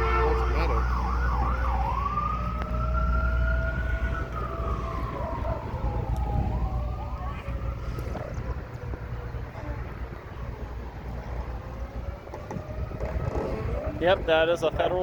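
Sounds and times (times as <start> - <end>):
emergency vehicle siren wailing: 0.0 - 15.0
outdoor warning siren: 0.0 - 15.0
steady low rumble: 0.8 - 14.8.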